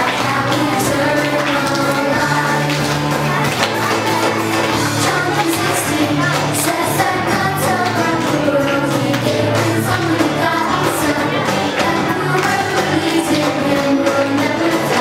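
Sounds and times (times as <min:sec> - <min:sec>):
bass line and beat: 0:00.0 - 0:15.0
person singing: 0:00.0 - 0:15.0.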